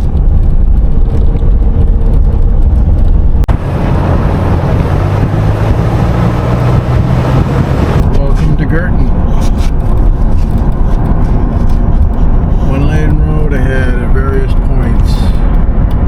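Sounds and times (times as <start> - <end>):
car engine hum: 0.0 - 16.0
car road noise rumble: 0.0 - 16.0.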